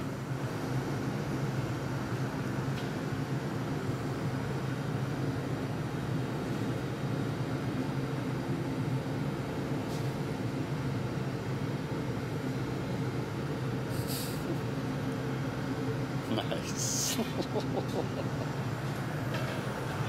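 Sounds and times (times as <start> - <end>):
exhaust fans running: 0.0 - 20.0
furnace and burners roaring: 0.0 - 20.0.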